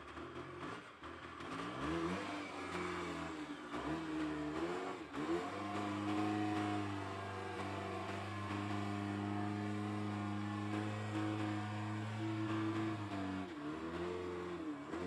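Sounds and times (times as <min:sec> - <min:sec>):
forklift engine revving: 0:00.0 - 0:15.0.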